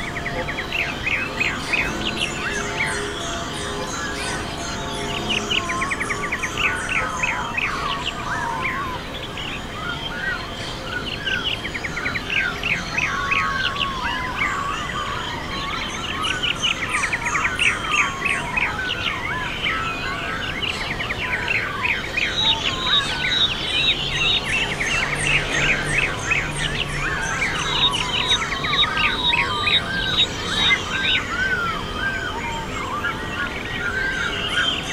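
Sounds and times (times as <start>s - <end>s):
birds singing: 0.0s - 34.9s.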